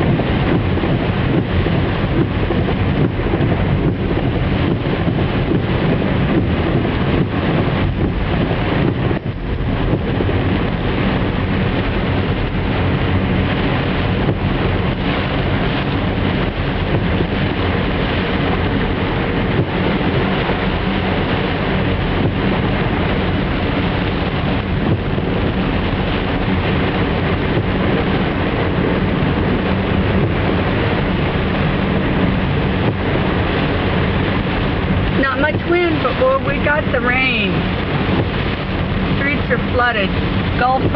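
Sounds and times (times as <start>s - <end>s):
car engine hum: 0.0s - 40.9s
rain hissing: 0.0s - 40.9s
tyres in standing water: 0.0s - 40.9s.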